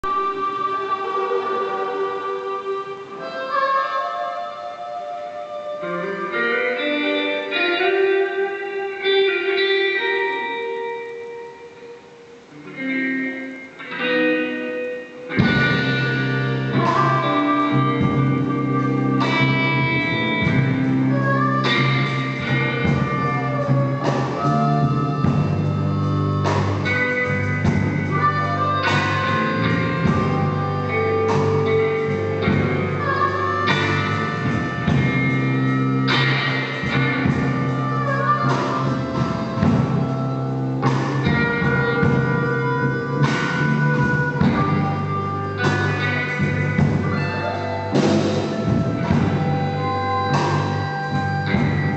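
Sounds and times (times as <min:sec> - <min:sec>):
blues guitar: 0:00.0 - 0:51.9
drums: 0:00.0 - 0:51.9
bass guitar: 0:05.0 - 0:51.9.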